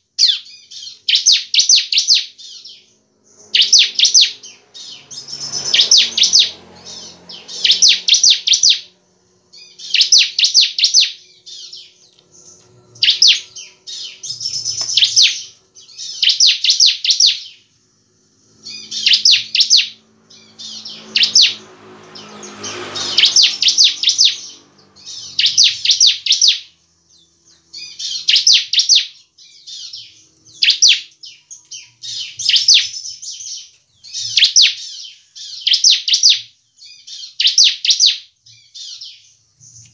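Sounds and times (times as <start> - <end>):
bird singing buzzy chirps: 0.0 - 39.9.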